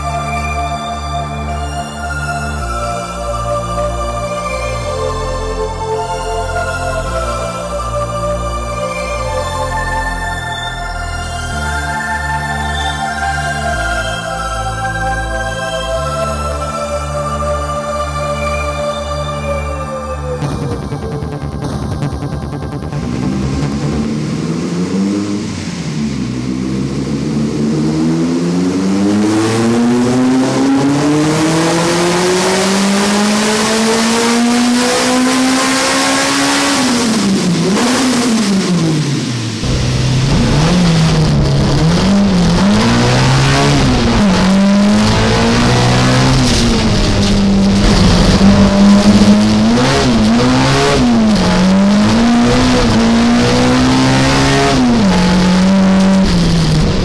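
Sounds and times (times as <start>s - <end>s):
race car engine revving: 1.4s - 57.0s.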